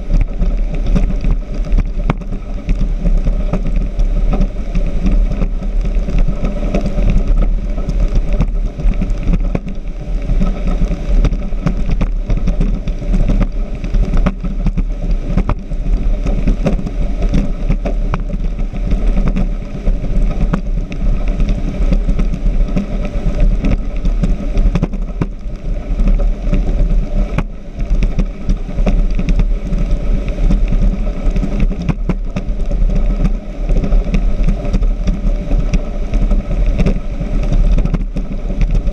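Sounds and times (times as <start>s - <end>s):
speedboat engine rumble: 0.0s - 38.9s
water crackles and splashes: 0.0s - 38.9s
wind and spray noise: 0.0s - 38.9s.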